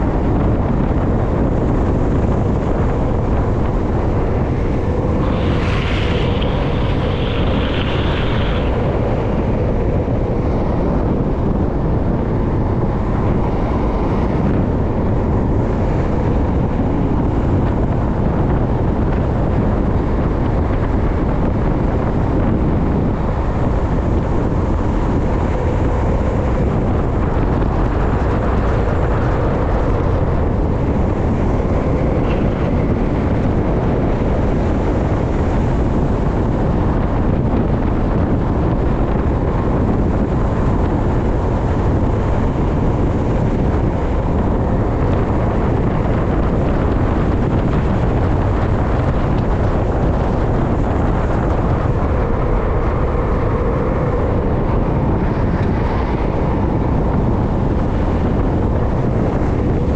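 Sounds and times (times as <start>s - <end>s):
wind rushing over microphone: 0.0s - 59.9s
skateboard wheels on asphalt: 1.6s - 59.9s.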